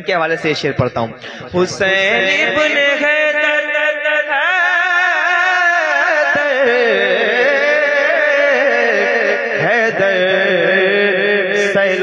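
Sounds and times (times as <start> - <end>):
man singing ornamented notes: 1.2 - 12.0.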